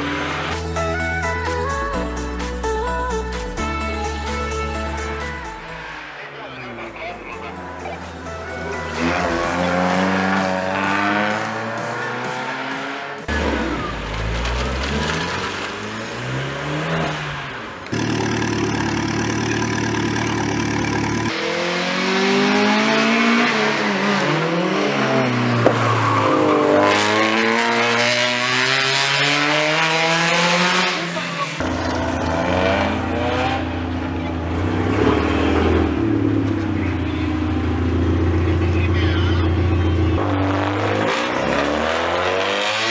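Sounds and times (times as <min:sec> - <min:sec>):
car engines accelerating and braking: 0:00.0 - 0:01.1, 0:04.5 - 0:42.9
steady engine drone with revving: 0:00.0 - 0:01.1, 0:04.5 - 0:42.9.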